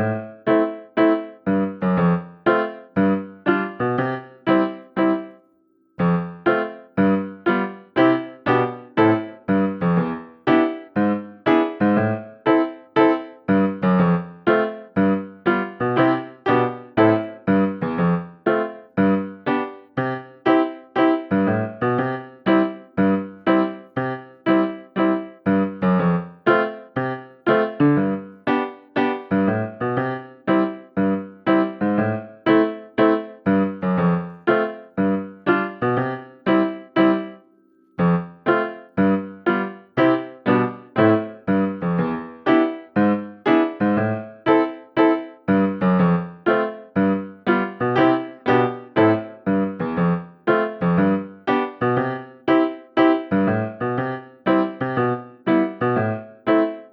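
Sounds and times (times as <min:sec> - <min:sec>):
light piano tune: 0:00.0 - 0:56.9.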